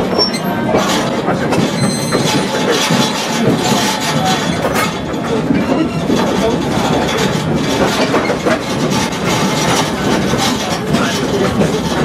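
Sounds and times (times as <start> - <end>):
train cars rumbling: 0.0 - 12.0
wheels clicking on rails: 0.0 - 12.0.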